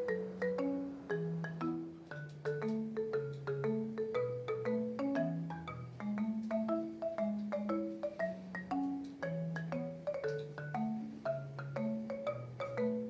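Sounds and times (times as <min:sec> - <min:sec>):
mallet notes: 0:00.0 - 0:13.0.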